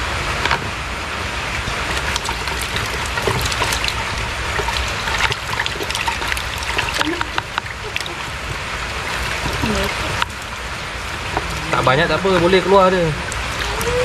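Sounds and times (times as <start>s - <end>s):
rain hiss: 0.0s - 14.0s
fish splashing in bucket: 1.3s - 14.0s.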